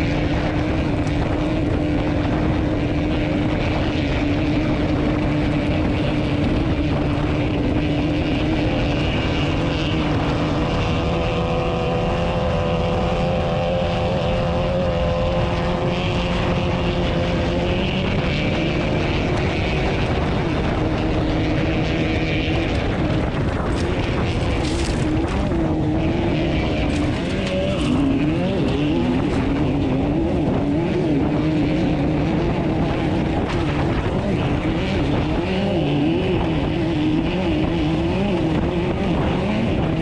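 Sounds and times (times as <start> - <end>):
race car engine running hard: 0.0 - 40.0
wind and road noise: 0.0 - 40.0.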